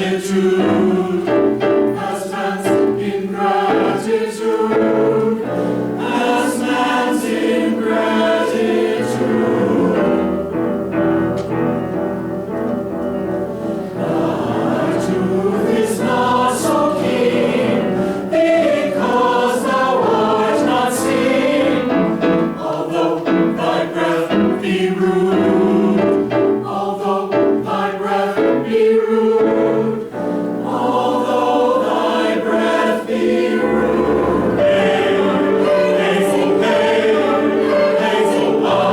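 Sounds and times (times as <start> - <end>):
choir singing in harmony: 0.0 - 12.2, 13.4 - 38.9.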